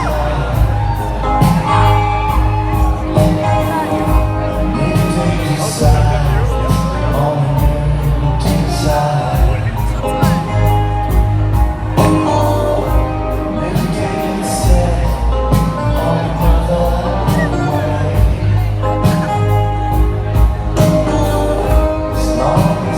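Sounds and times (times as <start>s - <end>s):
concert crowd: 0.0s - 22.9s
live band playing: 0.0s - 22.9s
man singing: 0.0s - 22.9s.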